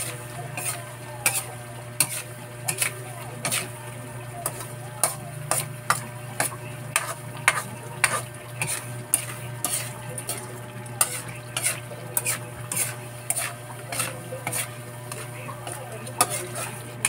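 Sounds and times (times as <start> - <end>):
faint sizzle: 0.0 - 17.0
metal spoon scraping a pan: 0.0 - 17.0.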